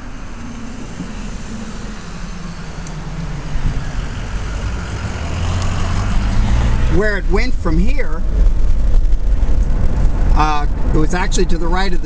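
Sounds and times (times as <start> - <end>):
car engine: 0.0 - 12.0
truck engine rumbling: 0.0 - 12.0.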